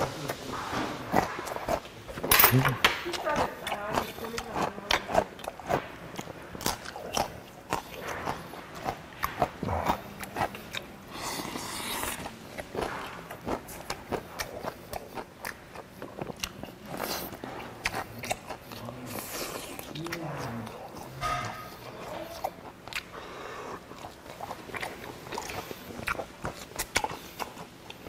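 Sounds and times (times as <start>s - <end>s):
wet chewing and lip-smacking: 3.0s - 28.0s.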